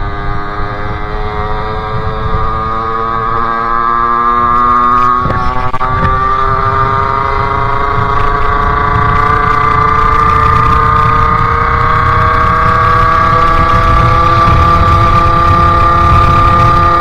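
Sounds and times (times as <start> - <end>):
two-stroke motorcycle engine: 0.0 - 17.0.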